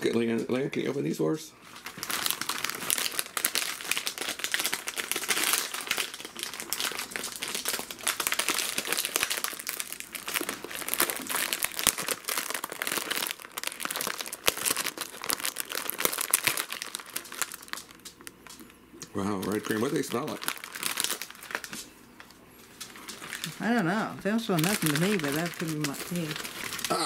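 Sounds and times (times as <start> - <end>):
plastic wrapper crinkling: 0.0 - 27.0.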